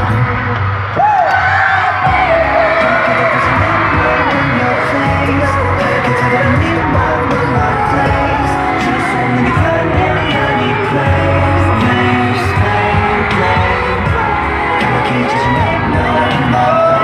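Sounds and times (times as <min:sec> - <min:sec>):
live pop music with singing: 0:00.0 - 0:17.0.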